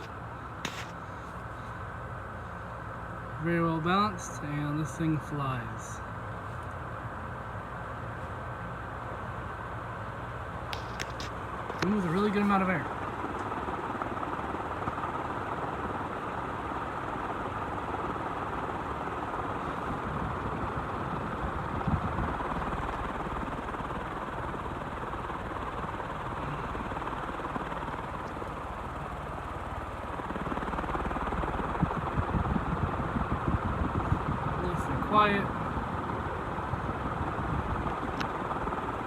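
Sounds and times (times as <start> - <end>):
ceiling fan air rush: 0.0 - 39.0.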